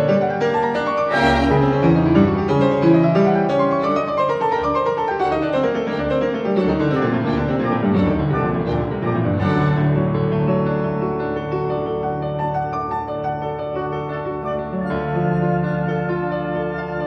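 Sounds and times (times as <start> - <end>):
instrumental piano music: 0.0 - 17.0.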